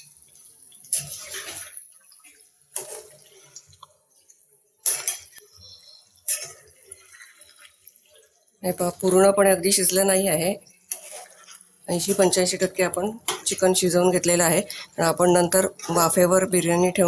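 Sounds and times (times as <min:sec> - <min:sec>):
ladle stirring thick gravy: 0:00.0 - 0:17.0.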